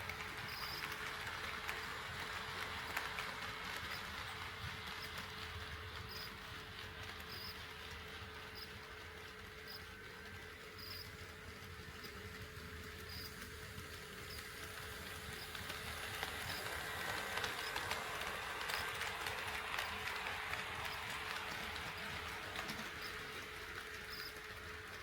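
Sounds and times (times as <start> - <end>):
model train rolling rattle: 0.0 - 25.0.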